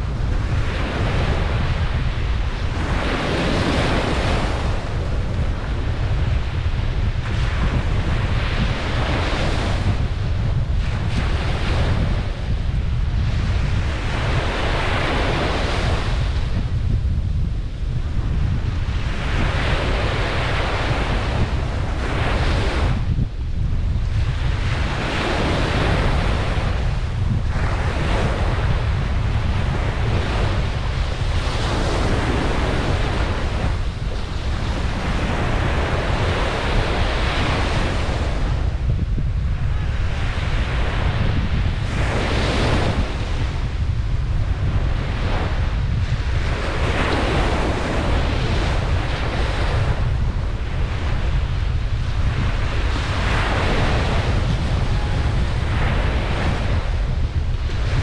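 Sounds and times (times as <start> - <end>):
ocean waves breaking on a beach: 0.0 - 58.0
wind rumble on microphone: 0.0 - 58.0.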